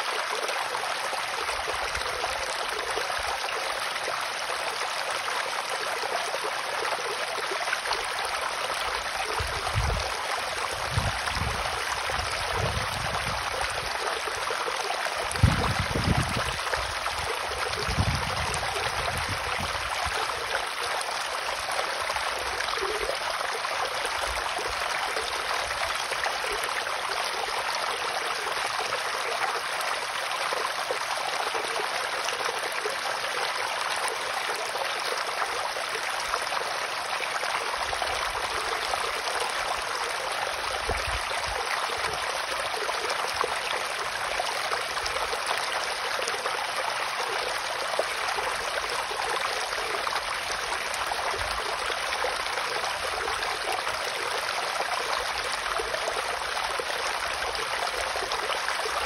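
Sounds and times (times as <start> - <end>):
stream babbling over pebbles: 0.0 - 59.0.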